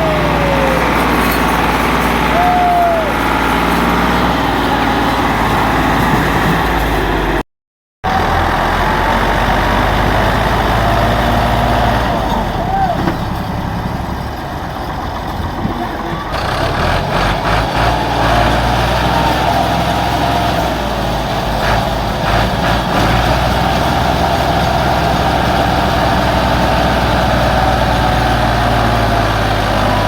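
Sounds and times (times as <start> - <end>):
tractor engine running: 0.0 - 7.4, 8.1 - 30.0.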